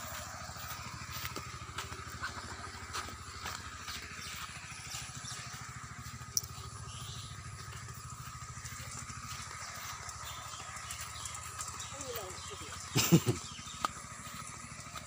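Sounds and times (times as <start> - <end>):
engine running with fast pulse: 0.0 - 15.0.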